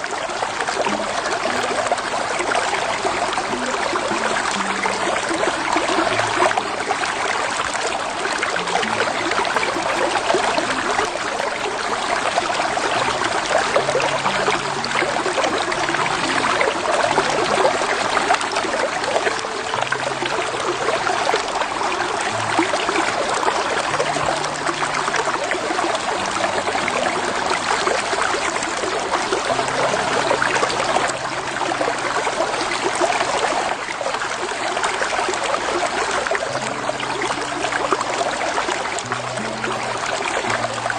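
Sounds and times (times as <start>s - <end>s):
creek flowing over rocks: 0.0s - 40.9s.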